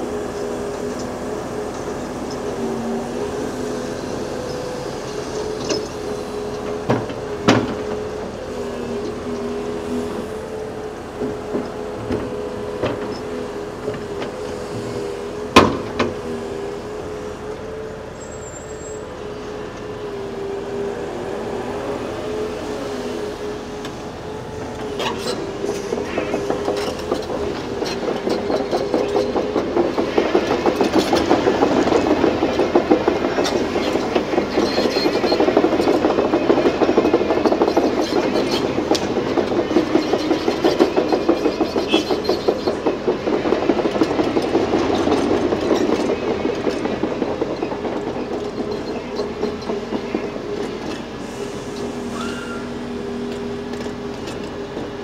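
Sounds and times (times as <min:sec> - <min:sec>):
excavator engine and hydraulics: 0:00.0 - 0:55.0
steel tracks clattering: 0:00.0 - 0:55.0.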